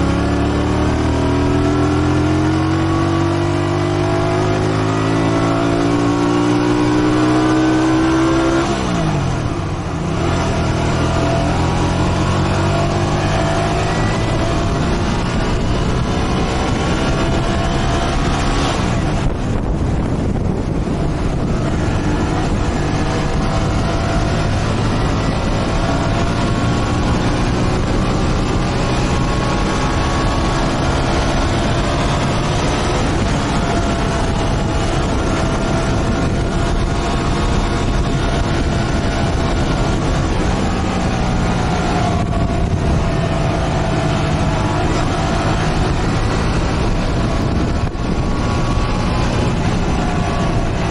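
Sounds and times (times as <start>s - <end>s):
motorcycle engine running: 0.0s - 50.9s
steady rushing noise: 0.0s - 50.9s.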